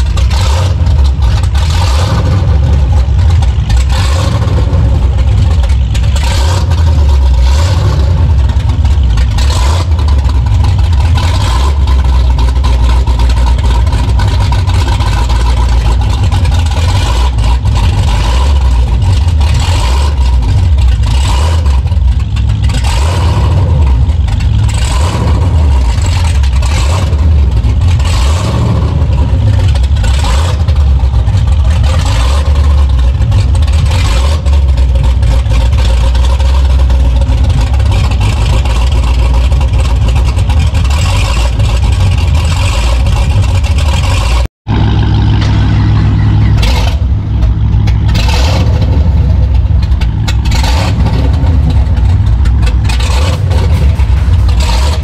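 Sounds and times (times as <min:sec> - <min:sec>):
v eight engine rumbling: 0:00.0 - 0:55.0.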